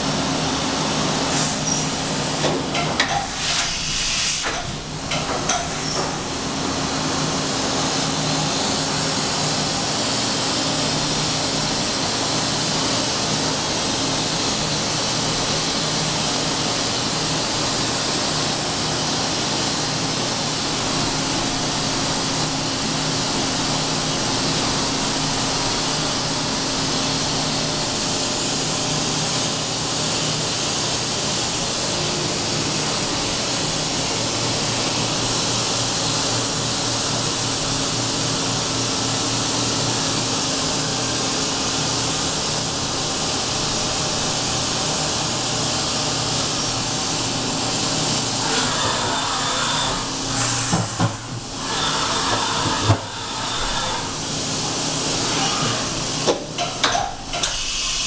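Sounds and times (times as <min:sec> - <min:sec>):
machining center hiss and hum: 0:00.0 - 0:58.0.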